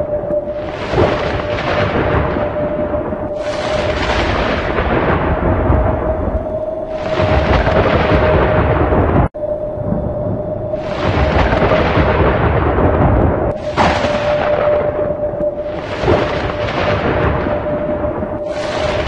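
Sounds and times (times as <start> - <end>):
steady droning tone: 0.0 - 19.0
thunder rumble: 0.0 - 19.0.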